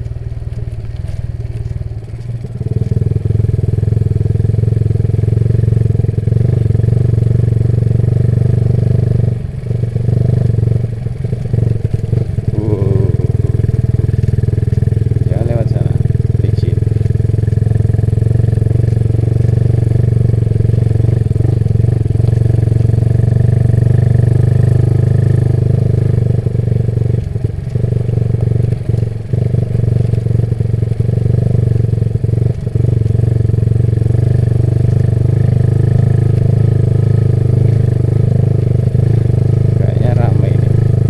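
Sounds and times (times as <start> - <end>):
motorcycle engine cruising: 0.0 - 41.0.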